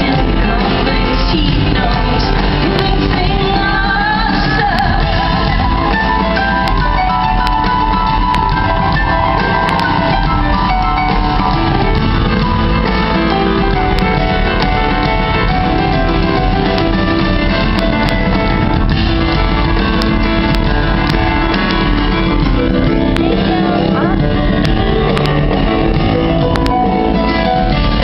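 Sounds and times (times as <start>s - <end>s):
muffled live rock band: 0.0s - 28.0s.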